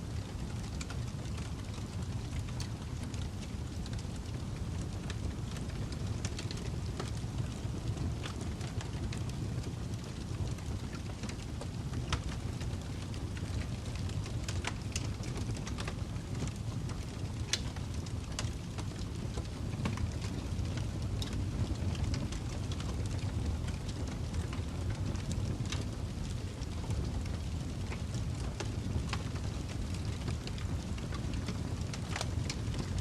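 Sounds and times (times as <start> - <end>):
fire crackling and popping: 0.0 - 33.0
fire rumbling: 0.0 - 33.0.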